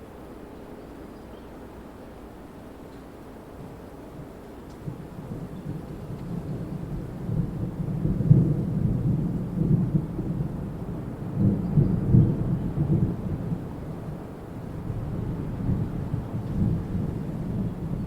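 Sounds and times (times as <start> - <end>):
wind gusting through trees: 0.0 - 18.0.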